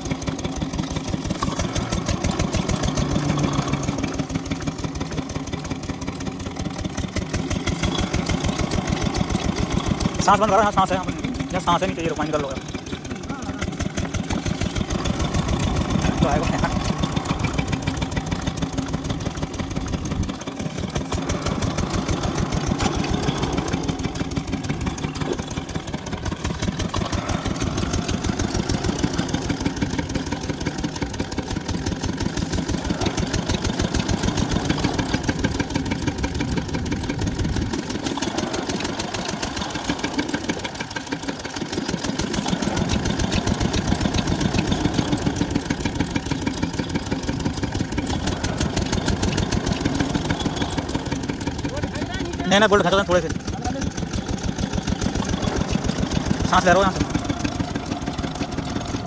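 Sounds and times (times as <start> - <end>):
diesel pump engine running: 0.0 - 59.0.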